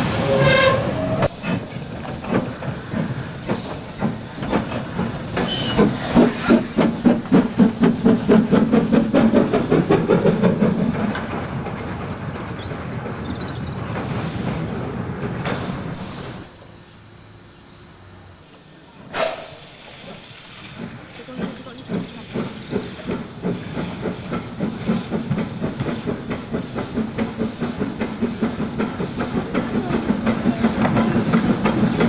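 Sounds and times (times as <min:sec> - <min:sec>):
steam locomotive exhaust beats: 0:00.0 - 0:16.6, 0:18.5 - 0:32.0
steam hissing: 0:01.2 - 0:12.4, 0:13.3 - 0:16.5, 0:18.4 - 0:32.0.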